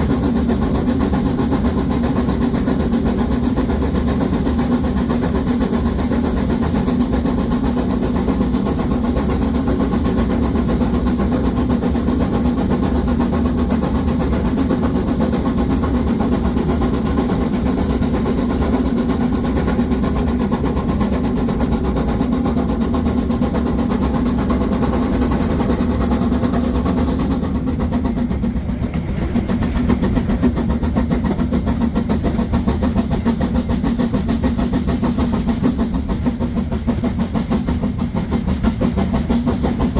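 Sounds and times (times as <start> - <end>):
steam locomotive exhaust beating: 0.0 - 39.9.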